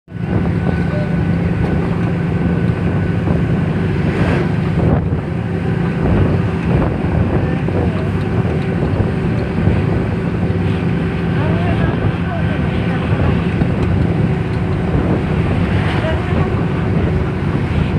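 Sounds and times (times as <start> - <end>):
road noise: 0.1 - 17.9
truck passing: 0.1 - 17.9
vehicle engine drone: 0.1 - 17.9.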